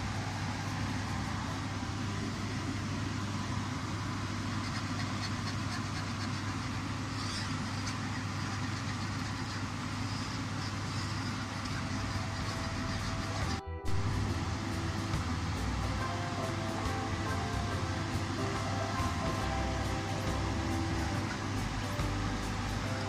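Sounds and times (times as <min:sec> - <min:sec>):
kitchen fan whirring: 0:00.0 - 0:23.0.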